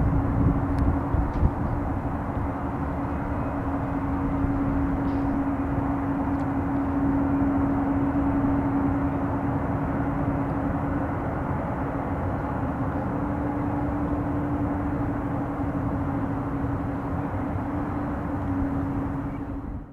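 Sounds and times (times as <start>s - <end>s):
jet engines rumbling: 0.0s - 19.9s.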